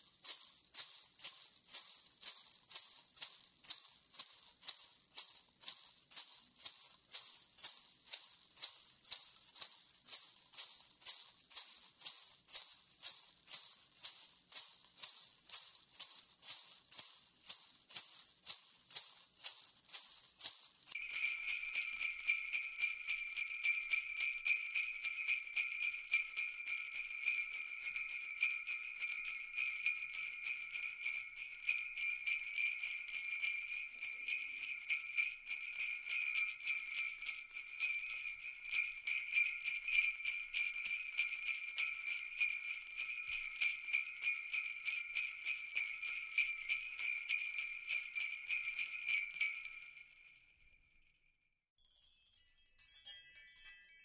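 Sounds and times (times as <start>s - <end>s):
jingle bells shaken: 0.0s - 54.0s.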